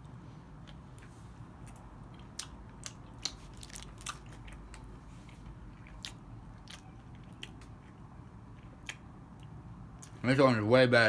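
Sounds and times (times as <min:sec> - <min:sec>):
person chewing candy: 0:00.6 - 0:10.2.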